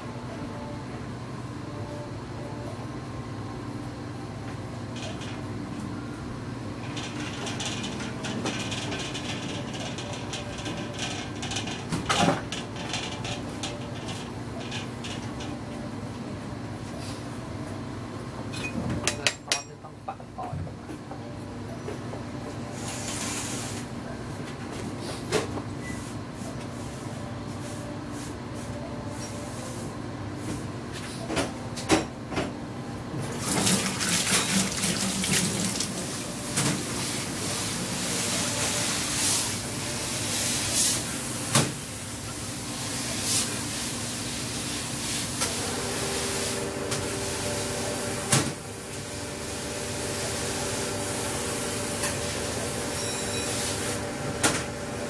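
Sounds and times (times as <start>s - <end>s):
kitchen hum: 0.0s - 55.0s.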